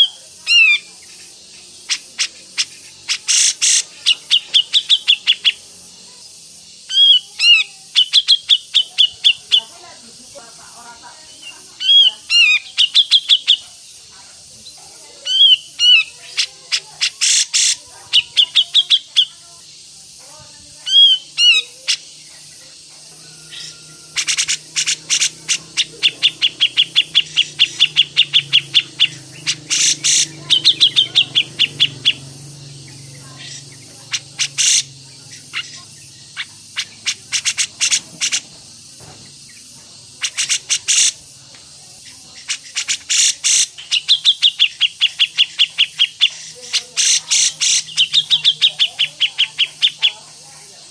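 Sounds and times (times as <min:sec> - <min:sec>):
songbird chirping: 0:00.0 - 0:50.9.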